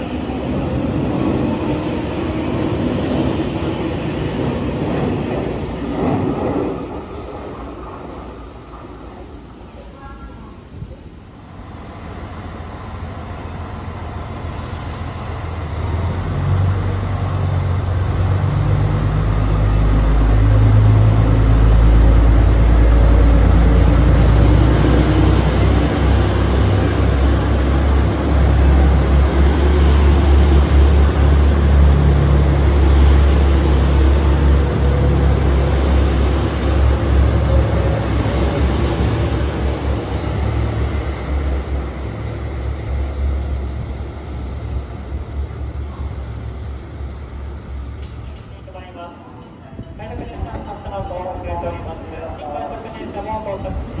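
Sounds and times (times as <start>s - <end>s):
diesel train engine rumble: 0.0s - 54.0s
train cars rolling past: 0.0s - 54.0s.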